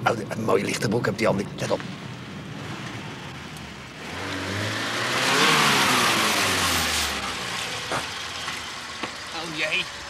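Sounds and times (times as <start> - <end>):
car engine passing: 1.7 - 10.0.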